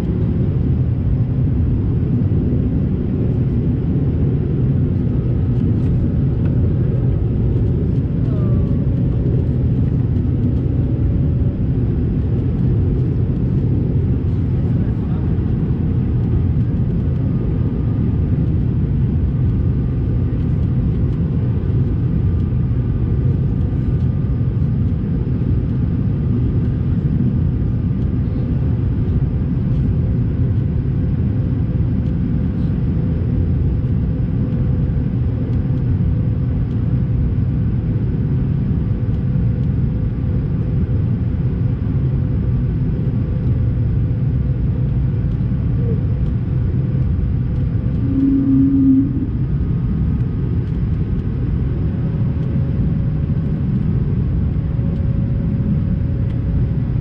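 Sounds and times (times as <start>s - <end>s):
airplane cabin roar: 0.0s - 57.0s
faint steady whine: 0.0s - 57.0s.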